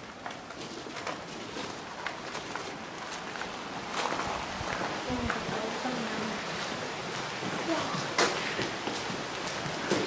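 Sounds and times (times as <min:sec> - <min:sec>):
footsteps on hiking trail: 0:00.1 - 0:05.8, 0:06.4 - 0:10.0.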